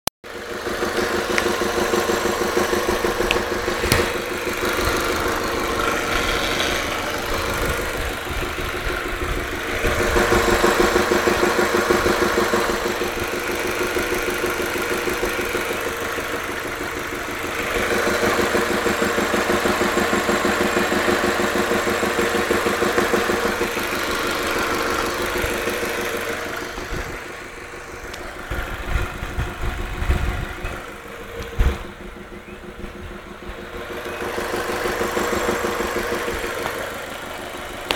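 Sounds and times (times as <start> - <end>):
car engine running: 0.2 - 37.9
rapid engine knocking: 0.2 - 37.9.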